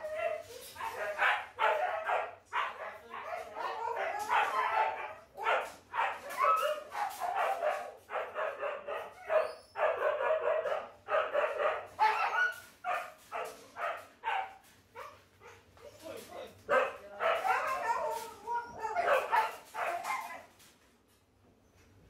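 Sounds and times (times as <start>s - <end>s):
huskies barking and yipping: 0.0s - 20.5s.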